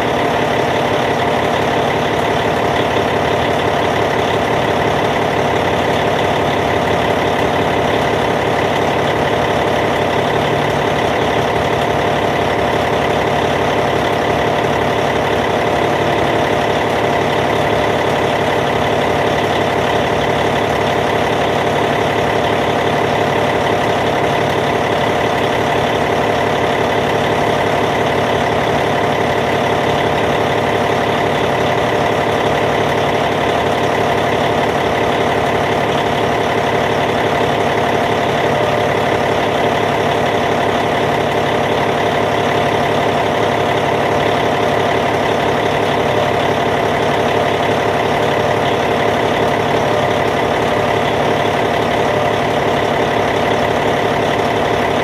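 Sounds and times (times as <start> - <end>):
bulldozer diesel engine idling: 0.0 - 55.0.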